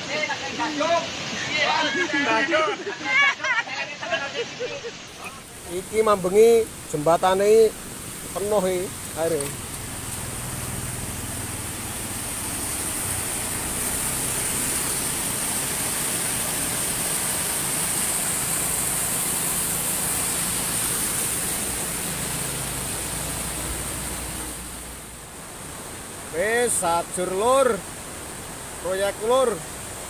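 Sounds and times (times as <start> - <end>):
rushing floodwater: 0.0 - 30.0.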